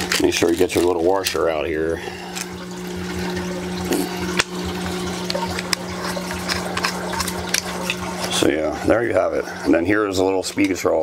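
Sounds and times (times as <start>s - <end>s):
pump hum: 0.0s - 11.0s
trickling water: 0.0s - 11.0s.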